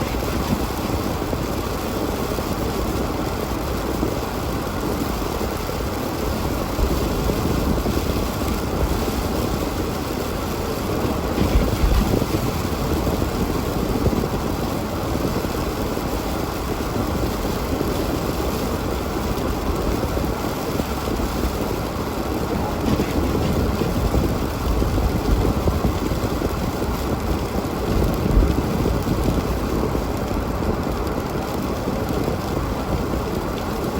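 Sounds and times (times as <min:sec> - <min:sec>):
road noise: 0:00.0 - 0:33.9.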